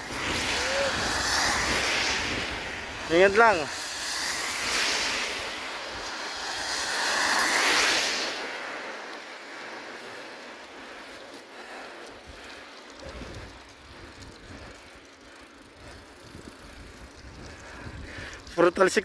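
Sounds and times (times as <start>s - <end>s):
wind rumbling on microphone: 0.0s - 9.7s, 12.1s - 18.8s
bicycle tyres on wet slushy road: 0.0s - 19.0s.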